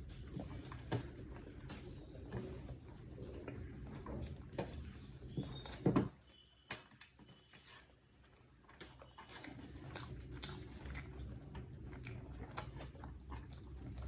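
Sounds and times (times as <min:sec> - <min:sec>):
chewing and wet mouth sounds: 0:00.0 - 0:05.8, 0:07.0 - 0:14.0.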